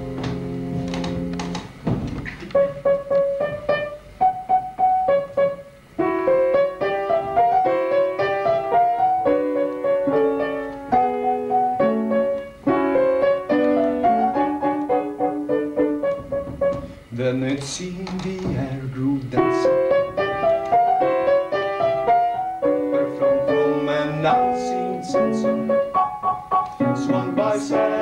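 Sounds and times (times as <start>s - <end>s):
piano playing: 0.0s - 28.0s.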